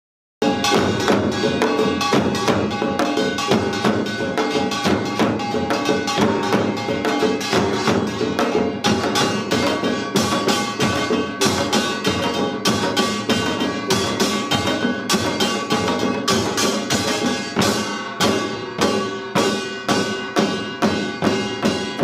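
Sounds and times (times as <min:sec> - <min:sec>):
fast drumming: 0:00.4 - 0:22.0
metallic ringing: 0:00.4 - 0:22.0.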